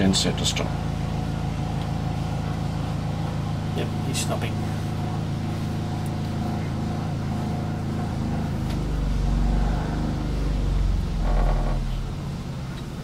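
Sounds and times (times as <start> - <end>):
diesel generator running down: 0.0 - 13.0.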